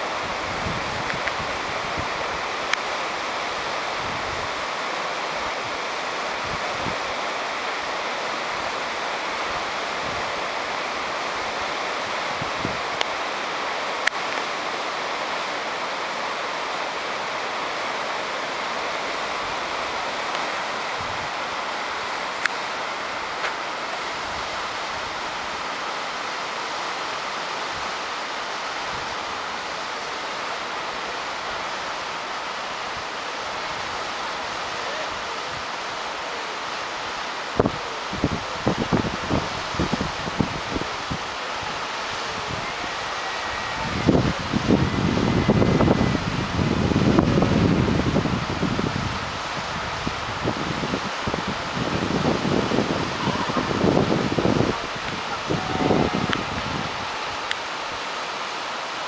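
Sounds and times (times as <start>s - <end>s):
river rapids rushing: 0.0s - 59.0s.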